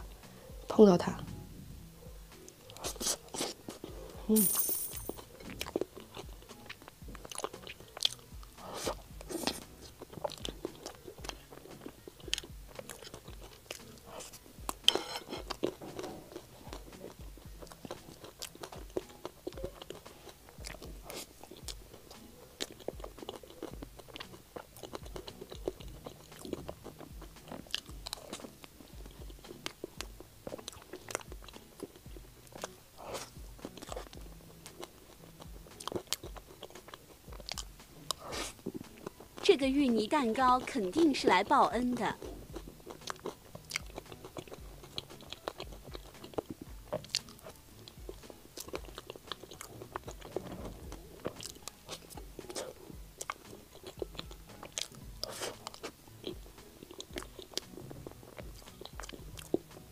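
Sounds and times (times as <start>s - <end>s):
chewing soft cake: 0.0s - 4.3s, 5.2s - 59.9s.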